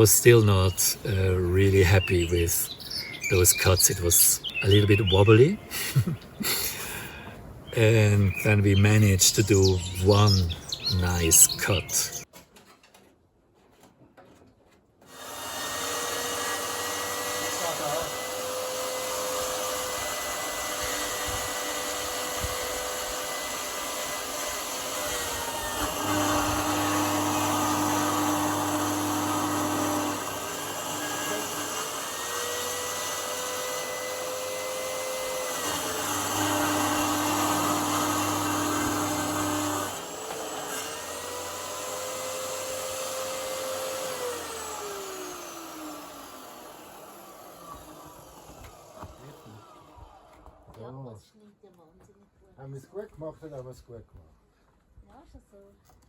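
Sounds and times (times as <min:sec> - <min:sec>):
electric saw cutting wood: 0:00.0 - 0:07.0, 0:07.8 - 0:12.2, 0:15.0 - 0:50.8.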